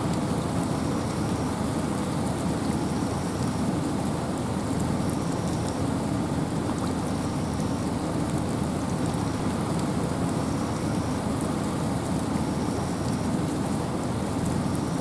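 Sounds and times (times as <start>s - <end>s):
rain falling: 0.0s - 15.0s
wind in forest: 0.0s - 15.0s.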